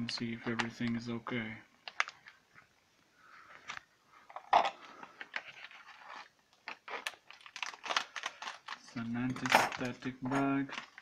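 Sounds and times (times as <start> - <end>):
plastic packaging crinkling: 0.0 - 2.7, 3.4 - 11.0.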